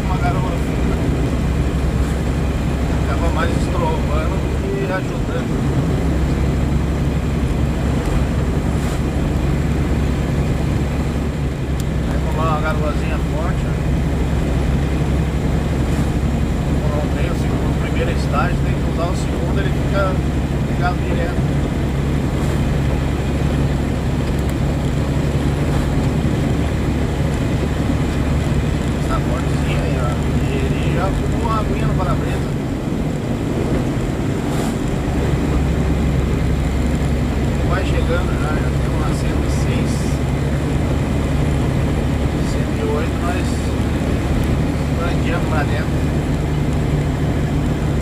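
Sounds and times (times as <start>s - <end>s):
diesel engine running: 0.0s - 48.0s
road noise: 0.0s - 48.0s.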